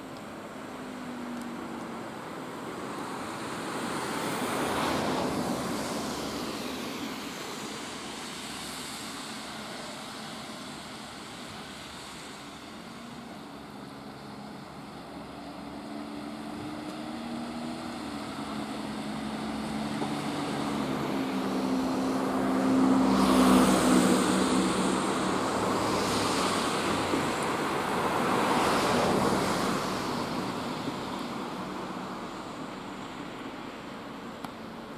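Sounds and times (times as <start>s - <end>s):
cars passing on a street: 0.0s - 34.9s.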